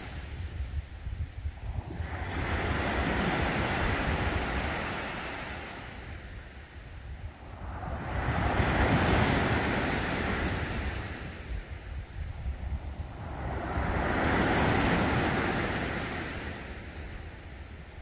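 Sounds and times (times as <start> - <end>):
ocean waves washing onto beach: 0.0 - 18.0.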